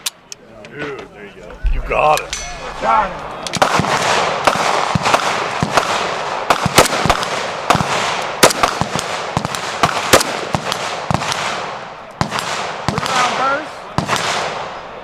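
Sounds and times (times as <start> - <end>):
gunshots from several firearms: 1.7 - 15.0.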